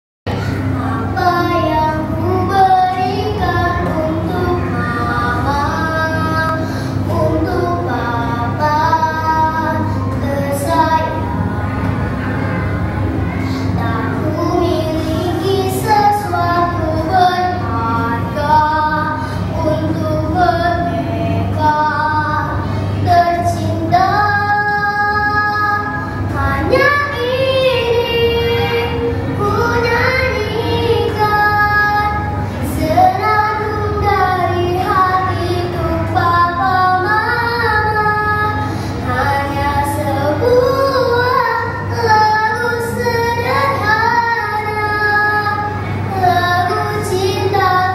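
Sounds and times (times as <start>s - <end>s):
girl singing: 0.3s - 47.9s.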